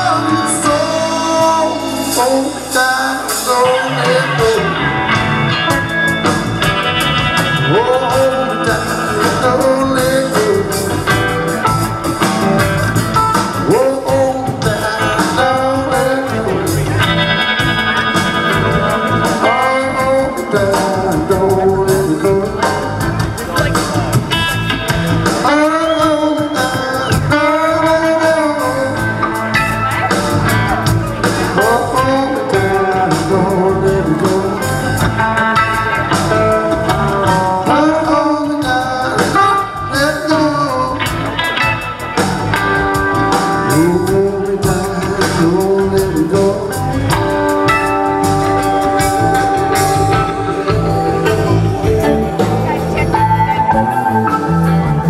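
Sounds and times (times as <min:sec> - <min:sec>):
blues-rock band music: 0:00.0 - 0:55.0.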